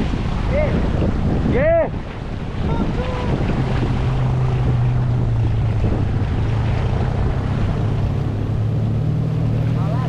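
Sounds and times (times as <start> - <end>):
boat engine drone: 0.0 - 10.0
rushing water: 0.0 - 10.0
wind buffeting microphone: 0.0 - 10.0.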